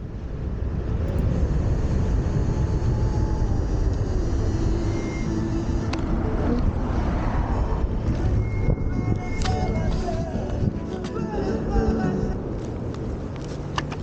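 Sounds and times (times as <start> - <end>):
wind buffeting microphone: 0.0 - 13.8
electric scooter rumble: 0.0 - 14.0.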